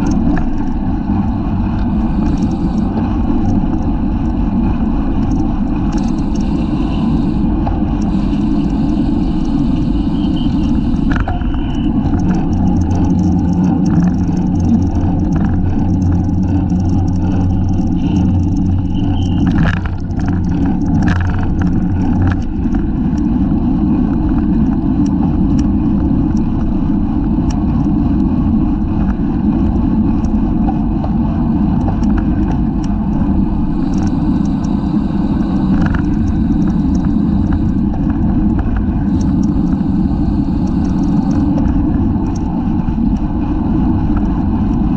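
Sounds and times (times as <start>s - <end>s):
steady low hum: 0.0s - 44.9s
wind rushing over microphone: 0.0s - 44.9s.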